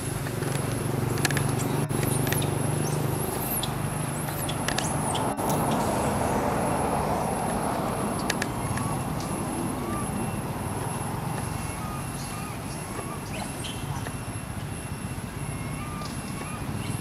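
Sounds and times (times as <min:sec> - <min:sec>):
motor vehicle hum: 0:00.0 - 0:17.0.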